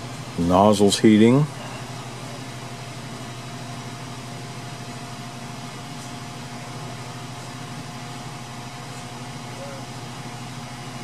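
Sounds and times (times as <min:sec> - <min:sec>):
cooling fans humming: 0:00.0 - 0:11.0
thin steady whine: 0:00.0 - 0:11.0.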